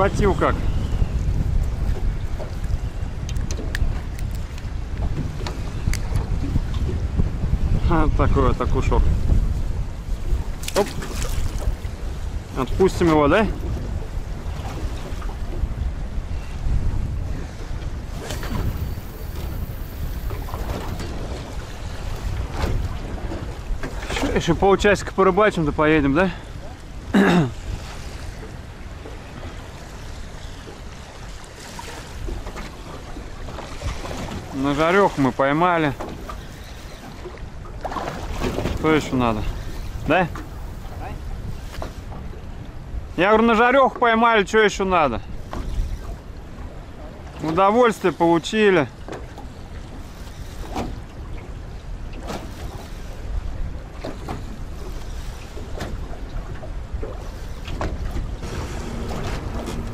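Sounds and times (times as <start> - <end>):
wind buffeting microphone: 0.0 - 47.6, 48.9 - 59.9
waves lapping against boat hull: 0.0 - 59.9.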